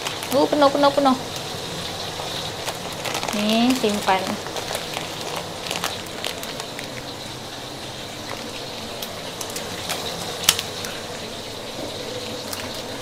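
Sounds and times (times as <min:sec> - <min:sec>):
fish sizzling in hot oil: 0:00.0 - 0:13.0
oil crackling and spitting: 0:00.0 - 0:13.0.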